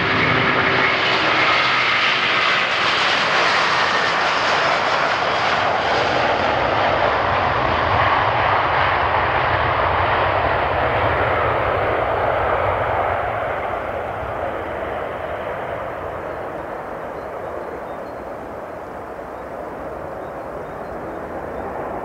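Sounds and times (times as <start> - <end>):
jet airliner at takeoff thrust: 0.0 - 22.0.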